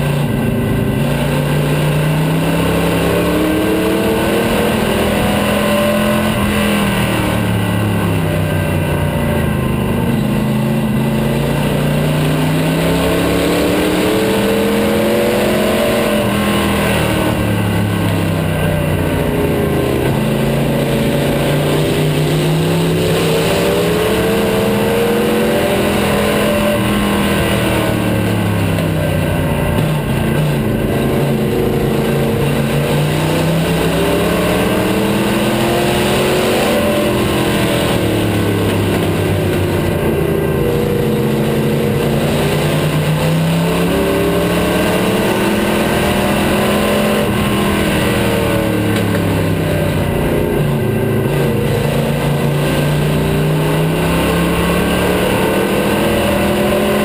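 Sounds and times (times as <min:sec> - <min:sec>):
race car engine: 0:00.0 - 0:57.0
wind and road noise: 0:00.0 - 0:57.0.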